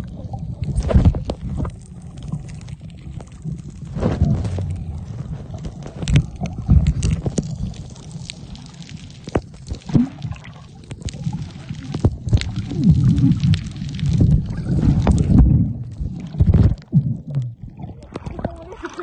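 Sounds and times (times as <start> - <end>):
muffled underwater water rumble: 0.0 - 19.0.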